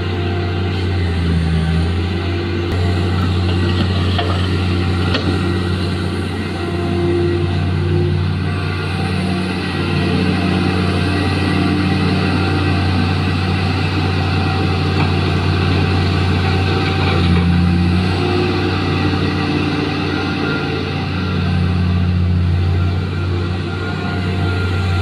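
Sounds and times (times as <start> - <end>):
diesel excavator engine droning: 0.0 - 25.0.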